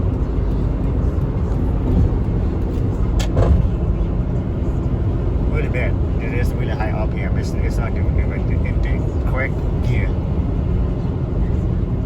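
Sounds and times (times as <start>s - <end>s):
engine and road noise in car: 0.0s - 12.0s.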